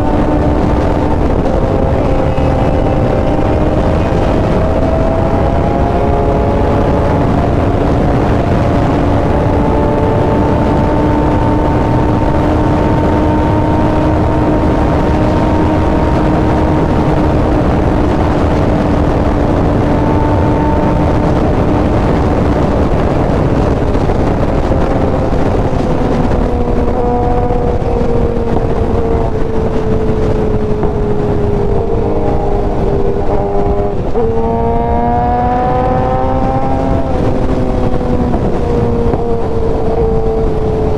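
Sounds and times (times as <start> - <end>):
motorcycle engine cruising: 0.0 - 40.9
wind rush: 0.0 - 40.9.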